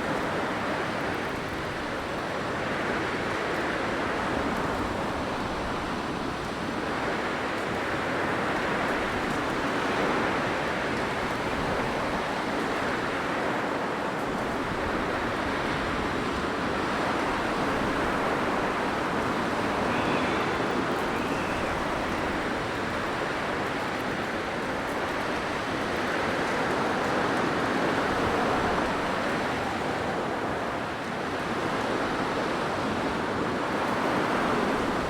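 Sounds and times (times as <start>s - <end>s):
blizzard wind blowing: 3.8s - 35.0s.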